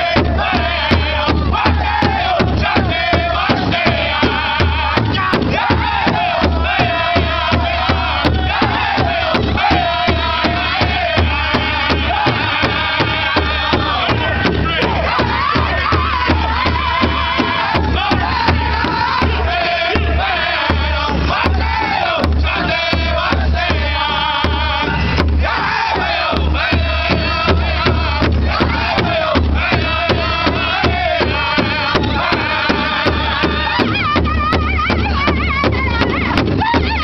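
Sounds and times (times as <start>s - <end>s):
group singing in high voices: 0.0s - 37.0s
large hide drum beating: 0.0s - 37.0s.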